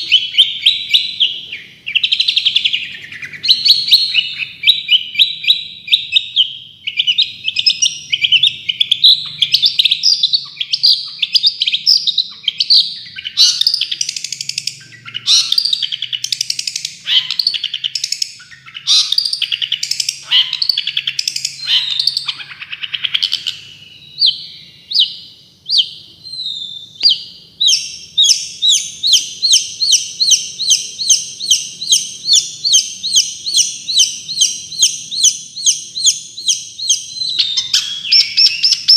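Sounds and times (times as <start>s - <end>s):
shrike chattering song: 0.0s - 26.2s, 26.8s - 38.9s.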